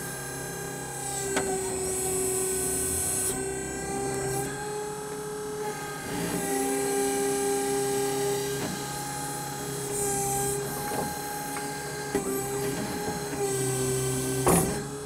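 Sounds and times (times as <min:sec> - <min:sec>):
electric motor and hydraulic whine: 0:00.0 - 0:15.0.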